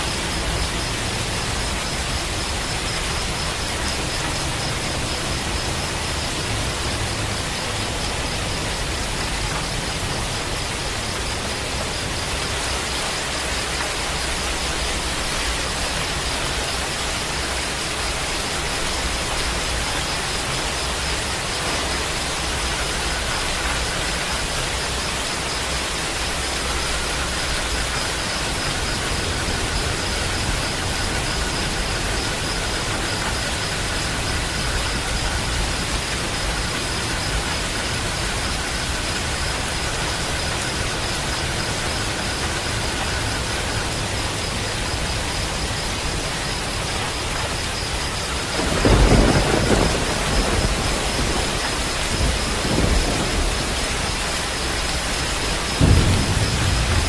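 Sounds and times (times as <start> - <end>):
thunder rumbling: 0.0 - 47.6, 48.3 - 57.0
rain falling: 0.0 - 57.0.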